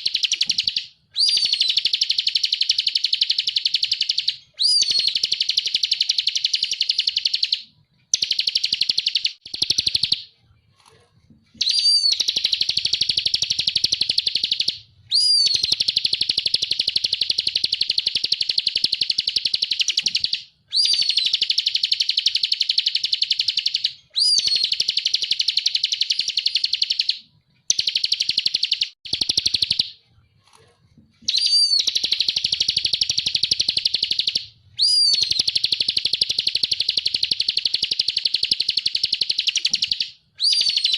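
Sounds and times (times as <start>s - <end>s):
bird singing rapid high notes: 0.0s - 10.3s, 11.6s - 30.0s, 31.2s - 40.9s.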